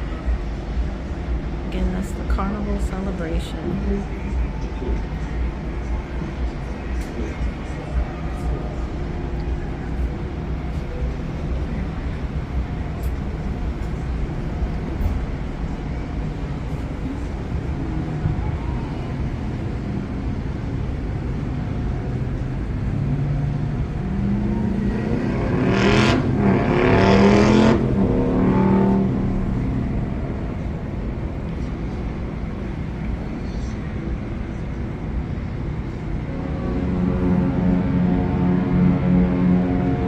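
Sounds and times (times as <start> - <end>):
low harbour rumble: 0.0 - 40.0.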